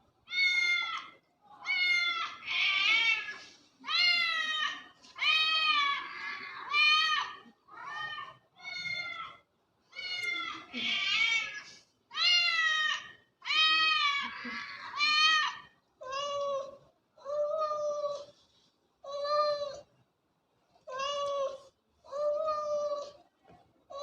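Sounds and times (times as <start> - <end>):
cat meowing: 0.3 - 18.3, 20.9 - 23.2.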